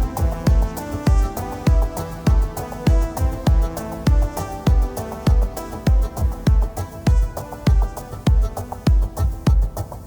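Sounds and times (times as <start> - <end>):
deep kick drum beating: 0.0 - 10.0
held synth notes: 0.0 - 10.0.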